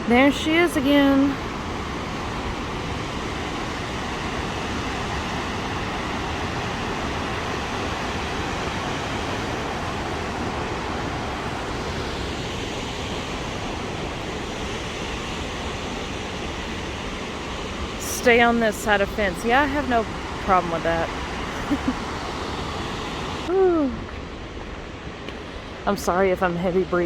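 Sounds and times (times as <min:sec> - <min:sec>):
waterfall rushing: 0:00.0 - 0:24.1.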